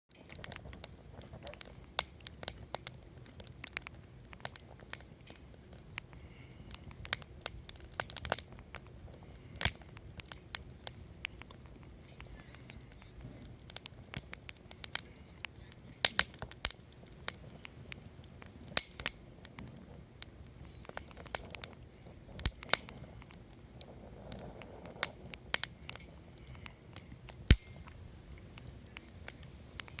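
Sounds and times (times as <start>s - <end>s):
low hiss: 0.1s - 30.0s
wood fire crackling and popping: 0.1s - 30.0s.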